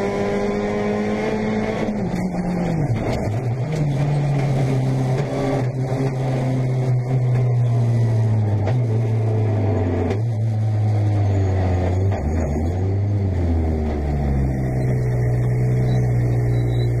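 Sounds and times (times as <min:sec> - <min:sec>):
rally car engine at low revs: 0:00.0 - 0:17.0.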